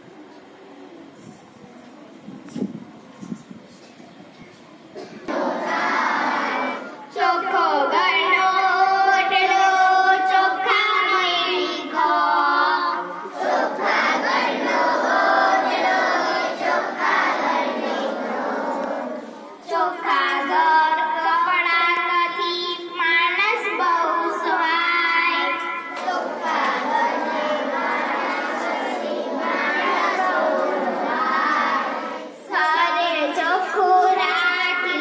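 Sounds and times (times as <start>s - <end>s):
girls singing together: 5.0s - 35.0s.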